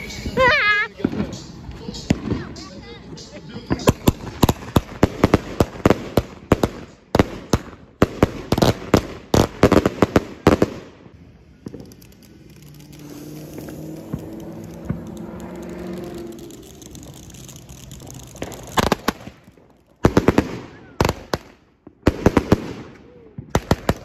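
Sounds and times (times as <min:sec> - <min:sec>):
firework bangs: 0:00.0 - 0:03.0, 0:03.6 - 0:24.0.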